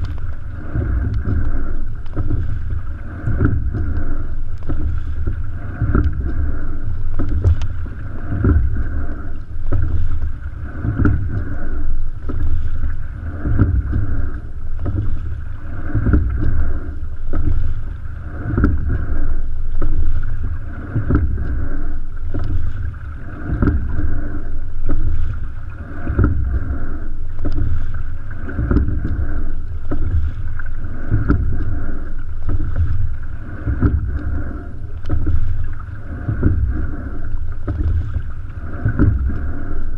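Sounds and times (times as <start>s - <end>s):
low rumble: 0.0s - 39.9s
rowing stroke thumps: 0.0s - 39.9s
water rushing along boat hull: 0.0s - 39.9s.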